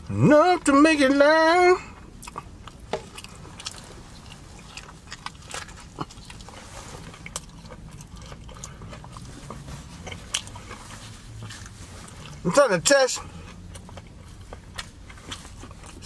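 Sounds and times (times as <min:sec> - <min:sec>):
steady low hum: 0:00.0 - 0:16.0
person chewing food: 0:01.8 - 0:12.5, 0:13.2 - 0:16.0.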